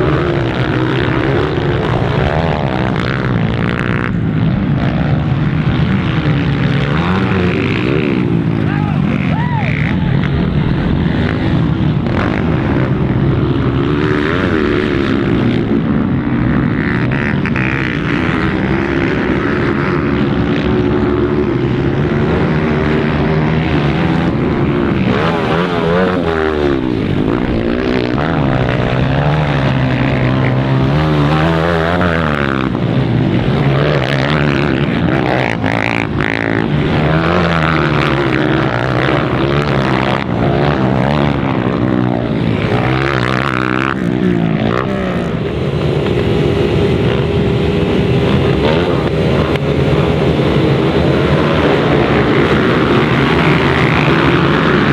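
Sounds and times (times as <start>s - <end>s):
dirt bike engines revving: 0.0s - 54.9s.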